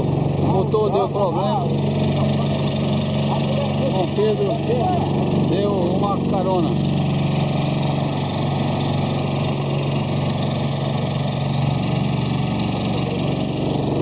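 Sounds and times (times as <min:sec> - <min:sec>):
boat motor running: 0:00.0 - 0:14.0
wind: 0:00.0 - 0:14.0.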